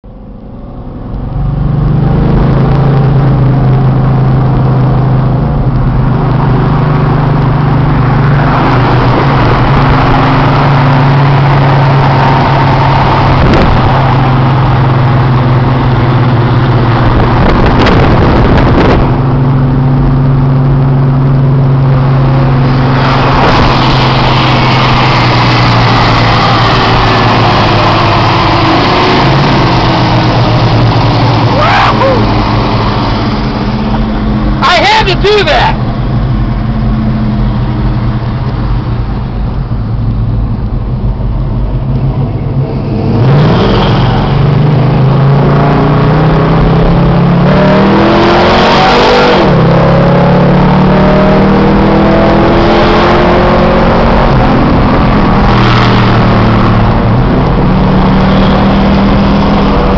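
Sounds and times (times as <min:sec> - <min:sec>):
car engine drone: 0:00.0 - 0:59.9
road and wind noise: 0:00.0 - 0:59.9.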